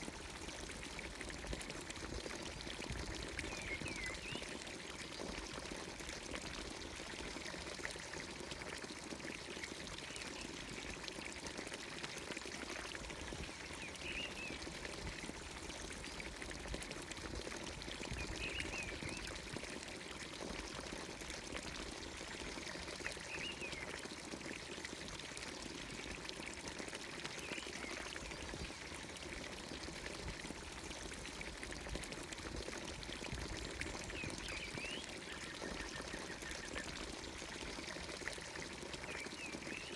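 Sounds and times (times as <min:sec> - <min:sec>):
fountain water pouring into trough: 0:00.0 - 0:39.9.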